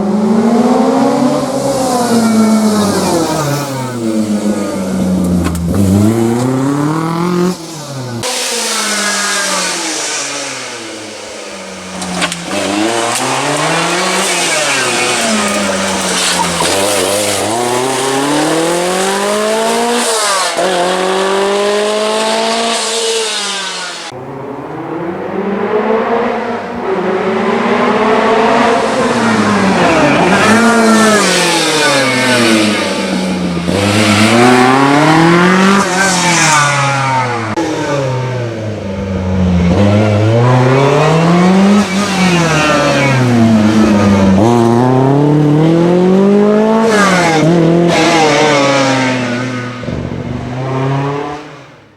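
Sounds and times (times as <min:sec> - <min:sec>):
car engine revving hard: 0:00.0 - 0:51.8.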